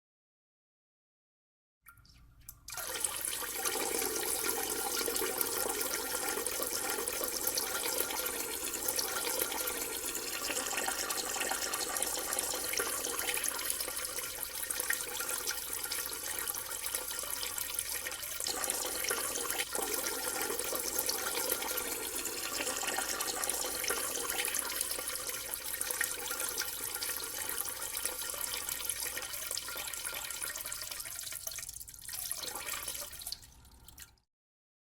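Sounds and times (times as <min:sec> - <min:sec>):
person urinating: 0:02.4 - 0:34.2.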